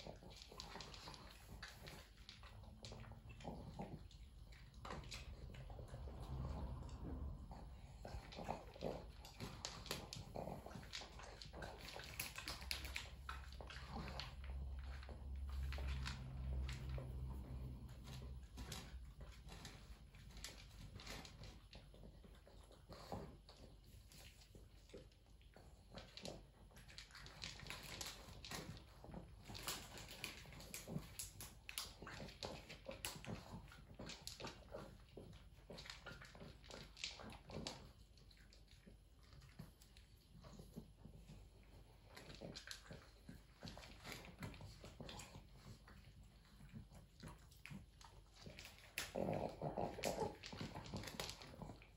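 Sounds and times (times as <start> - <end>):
dog eating wet smacking: 0.0 - 51.9.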